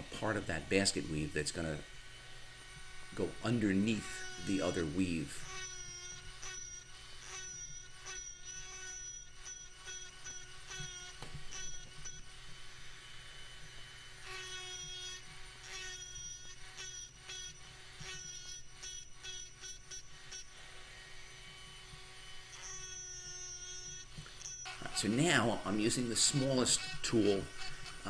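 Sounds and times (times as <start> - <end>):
rotary tool grinding wood: 0.0 - 28.0.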